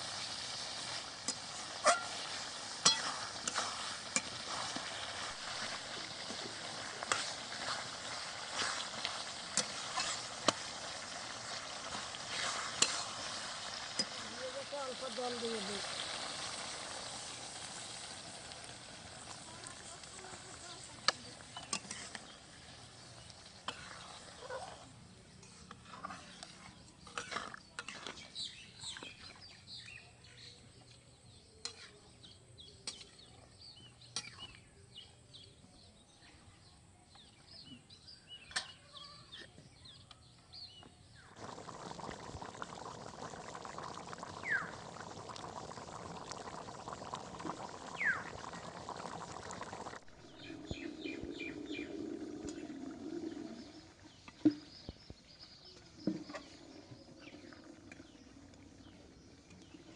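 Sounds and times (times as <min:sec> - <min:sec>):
boiling hiss: 0:00.0 - 0:33.7, 0:40.6 - 0:59.9
curry simmering and bubbling: 0:00.0 - 0:36.0, 0:37.1 - 0:59.9.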